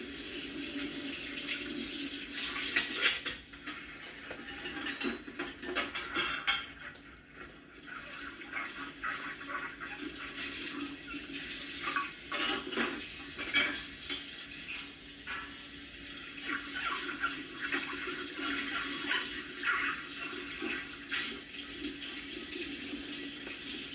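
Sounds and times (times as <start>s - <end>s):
water splashing and running: 0.0s - 23.9s
dishes clinking and clattering: 2.4s - 23.9s.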